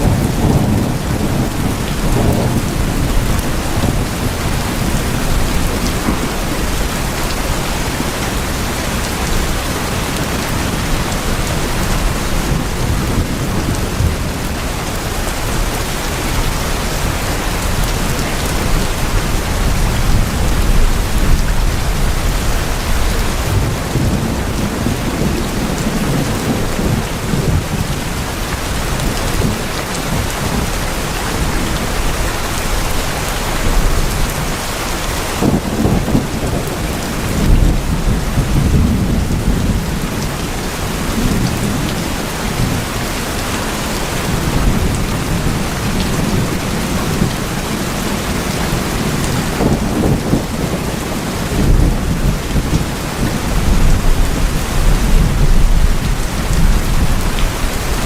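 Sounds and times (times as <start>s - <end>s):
heavy rain on tin roofs: 0.0s - 58.0s.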